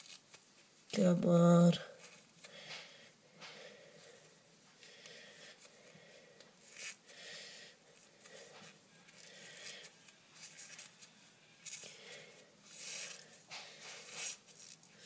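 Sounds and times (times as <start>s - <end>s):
hands rustling and scraping materials: 0.0s - 1.2s, 1.9s - 7.2s, 7.9s - 15.0s.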